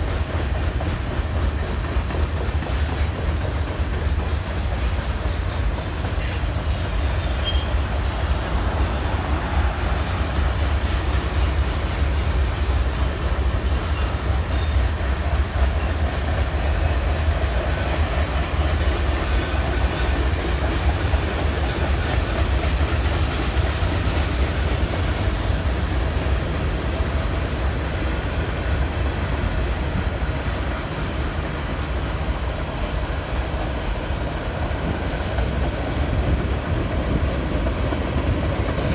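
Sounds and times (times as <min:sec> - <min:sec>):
train cars rumbling on rails: 0:00.0 - 0:38.9.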